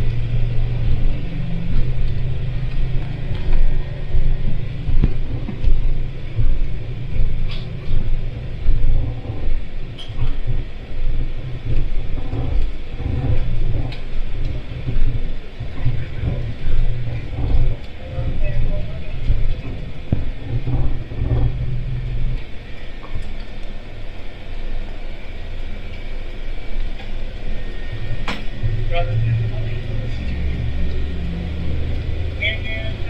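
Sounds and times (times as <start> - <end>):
vehicle rumbling in motion: 0.0 - 33.0.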